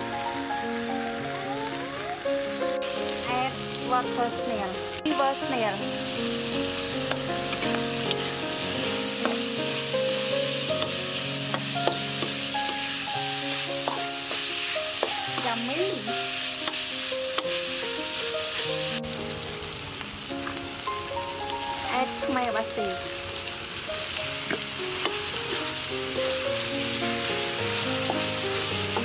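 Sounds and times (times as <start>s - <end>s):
snails sizzling in a wok: 0.0s - 29.0s.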